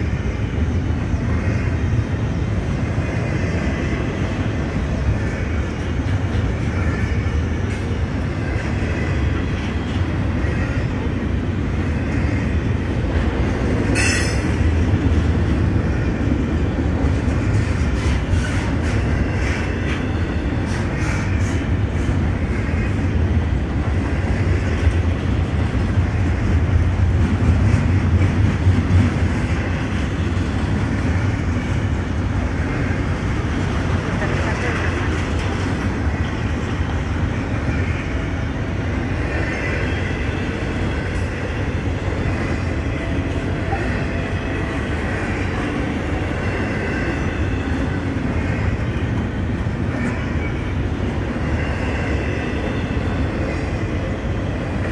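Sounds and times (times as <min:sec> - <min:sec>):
freight train rumbling: 0:00.0 - 0:54.9.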